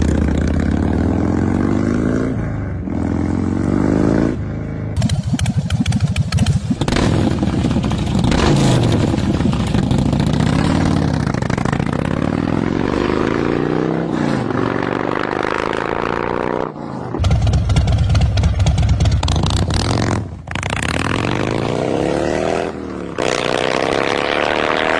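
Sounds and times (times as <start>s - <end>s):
motorcycle engines revving: 0.0s - 24.9s.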